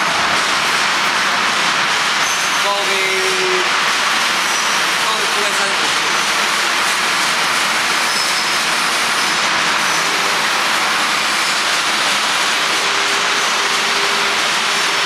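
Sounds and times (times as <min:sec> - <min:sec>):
packing machine hissing: 0:00.2 - 0:15.0.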